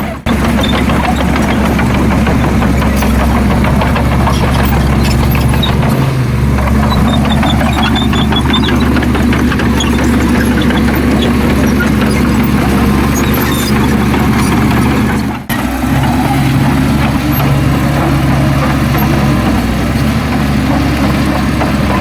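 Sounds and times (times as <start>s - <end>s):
heavy machinery engine drone: 0.0s - 22.0s
metal clanks and rattles: 0.0s - 22.0s.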